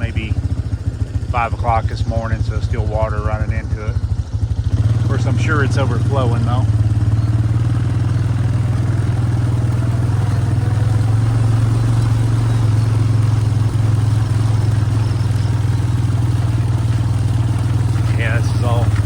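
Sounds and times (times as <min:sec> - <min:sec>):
vehicle engine low hum: 0:00.0 - 0:19.0.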